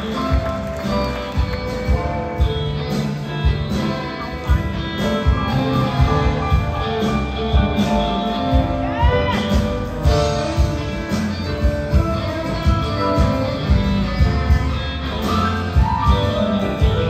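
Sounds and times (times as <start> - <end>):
electric guitar: 0.0 - 17.0
rock band with orchestra: 0.0 - 17.0
steady drum beat: 0.0 - 17.0.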